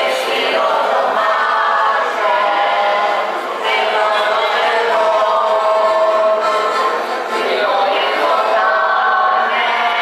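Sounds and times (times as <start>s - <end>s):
choir singing unaccompanied: 0.0s - 10.0s.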